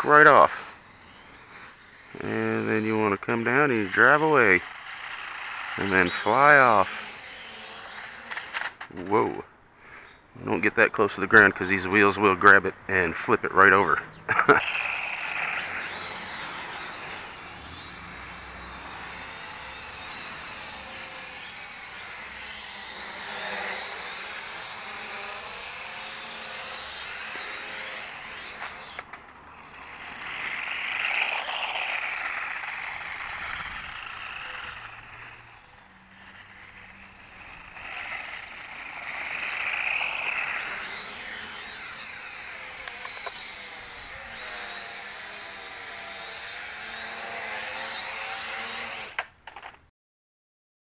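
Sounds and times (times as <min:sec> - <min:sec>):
small electric motors whining: 0:00.0 - 0:09.4, 0:14.2 - 0:49.8.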